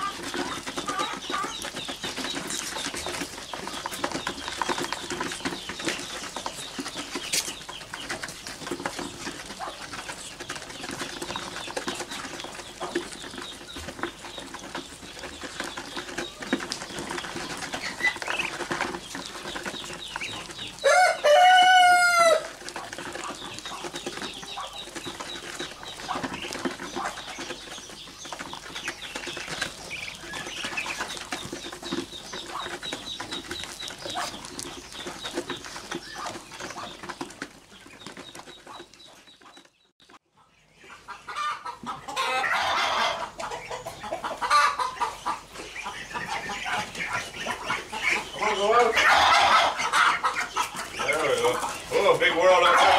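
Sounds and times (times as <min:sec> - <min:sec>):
ducklings peeping and chirping: 0:00.0 - 0:52.9.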